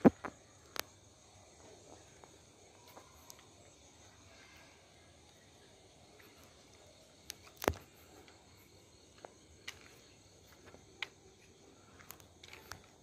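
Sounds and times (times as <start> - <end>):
faint insect chirring: 0.0 - 13.0.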